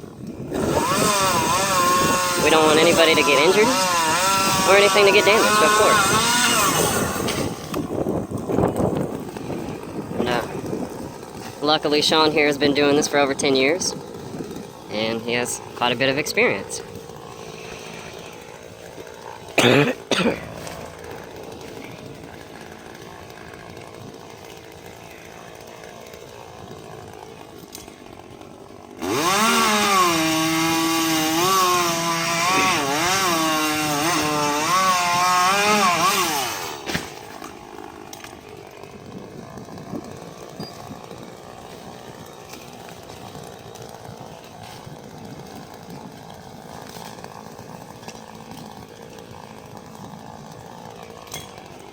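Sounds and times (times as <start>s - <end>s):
chainsaw cutting wood: 0.0s - 51.9s
chainsaw revving: 0.0s - 51.9s.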